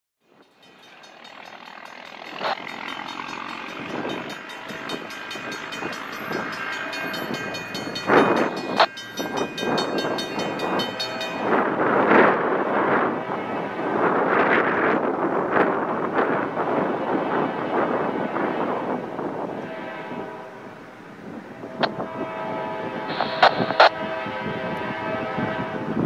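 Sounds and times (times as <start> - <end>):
distant train approaching: 0.2 - 26.0
wind gusting on microphone: 2.2 - 26.0.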